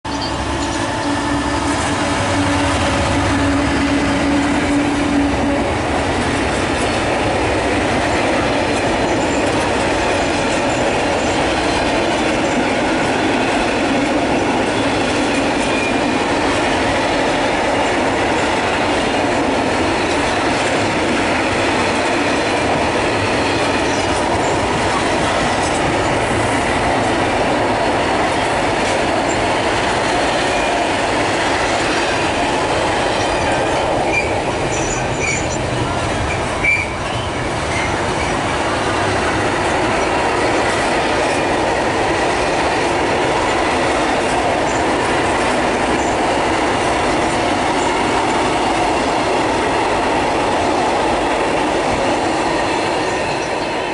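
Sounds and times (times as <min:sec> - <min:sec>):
diesel locomotive engine: 0:00.0 - 0:53.9.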